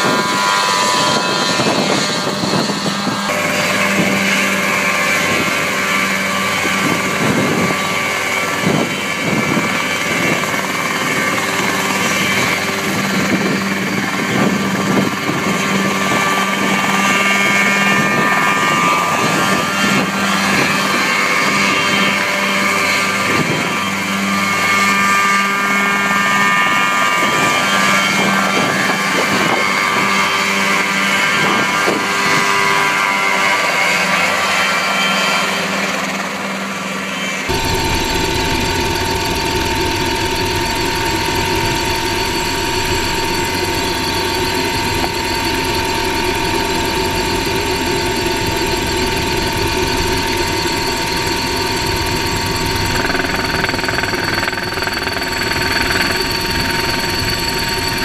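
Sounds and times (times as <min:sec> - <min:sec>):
ultralight helicopter hovering: 0:00.0 - 0:58.0.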